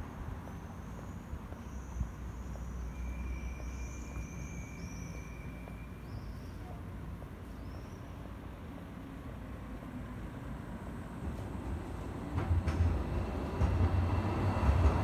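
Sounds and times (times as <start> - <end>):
rumble of passing traffic: 0.0 - 15.0.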